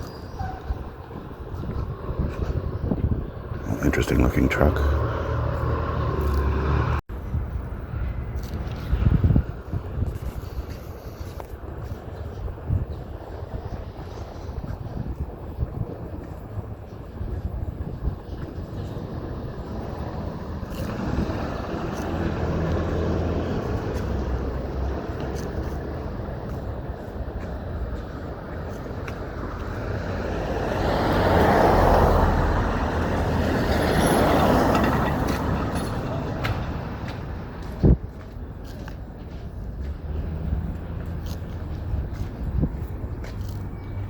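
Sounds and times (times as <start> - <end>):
vehicle engine humming: 0.0 - 15.0, 16.0 - 44.0
vehicles driving past: 0.0 - 44.0.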